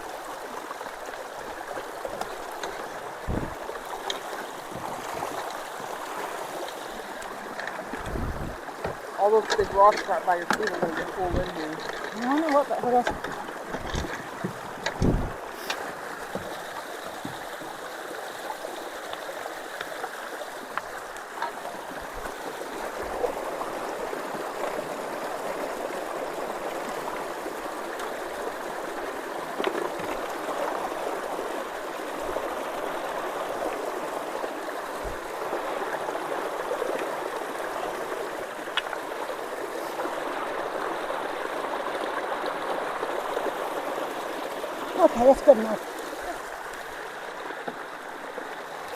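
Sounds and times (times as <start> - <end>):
creek water running through culvert: 0.0 - 48.9.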